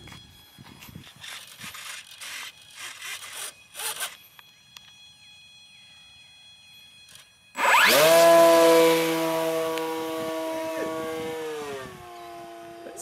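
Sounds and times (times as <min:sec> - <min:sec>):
electric motor and propeller whine: 0:00.0 - 0:13.0.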